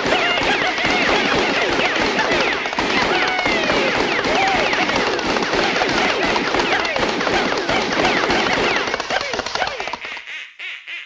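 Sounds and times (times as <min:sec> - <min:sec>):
rapid clattering: 0:00.0 - 0:10.2.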